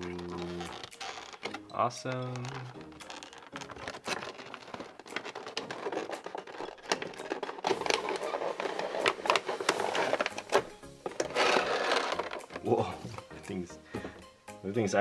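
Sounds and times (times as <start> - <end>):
packaging crinkling and rustling: 0.0 - 13.3.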